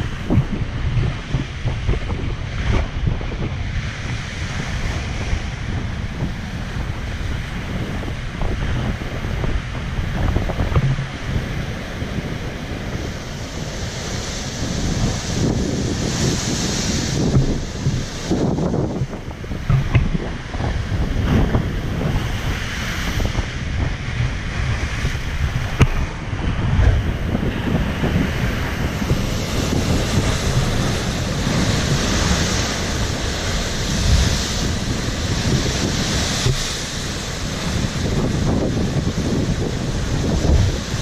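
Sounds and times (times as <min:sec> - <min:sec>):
surf crashing on rocks: 0:00.0 - 0:41.0
wind buffeting microphone: 0:00.0 - 0:41.0.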